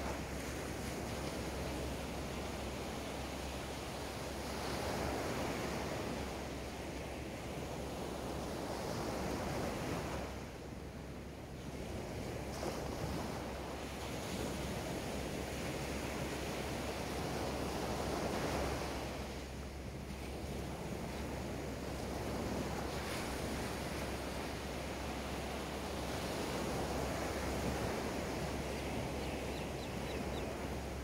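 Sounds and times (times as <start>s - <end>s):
small waves breaking on beach: 0.0s - 31.0s.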